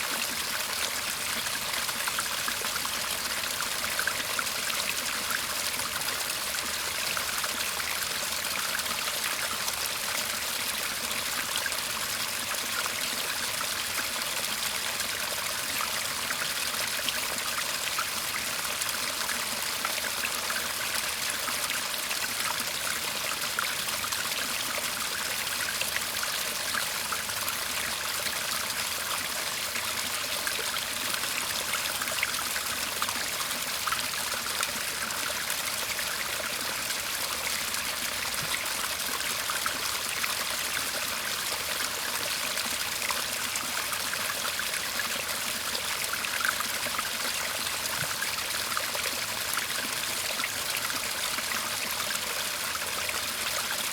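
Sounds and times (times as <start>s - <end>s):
stream babbling: 0.0s - 53.9s.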